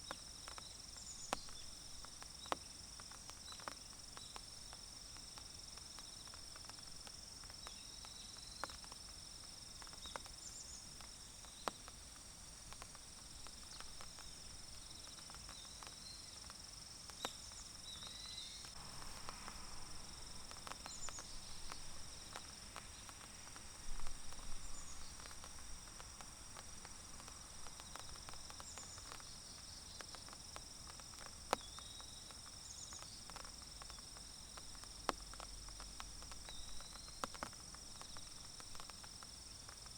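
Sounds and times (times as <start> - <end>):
high insect chorus: 0.0 - 39.9
raindrops ticking on leaves: 0.0 - 39.9.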